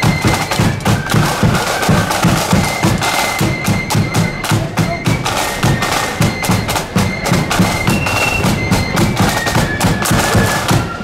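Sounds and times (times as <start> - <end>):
flute melody: 0.0 - 11.0
snare and bass drums: 0.0 - 11.0.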